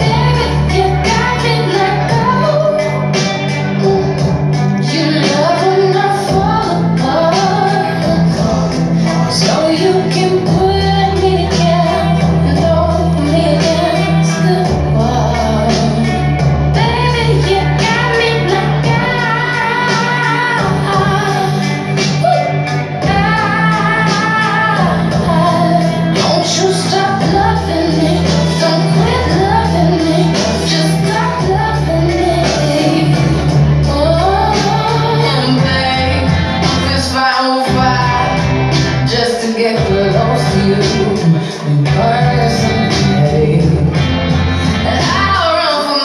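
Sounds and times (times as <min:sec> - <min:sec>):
instrumental backing: 0:00.0 - 0:46.0
woman singing with vibrato: 0:00.0 - 0:46.0.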